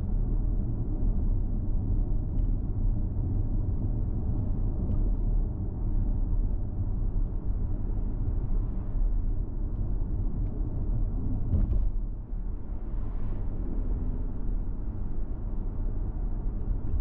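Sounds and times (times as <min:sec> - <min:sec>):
car tyres and engine rumbling: 0:00.0 - 0:17.0.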